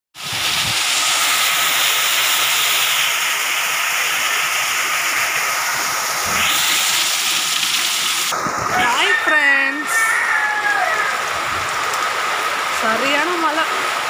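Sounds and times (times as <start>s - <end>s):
heavy rain falling: 0.2s - 14.0s
runoff pouring off roof: 0.2s - 14.0s.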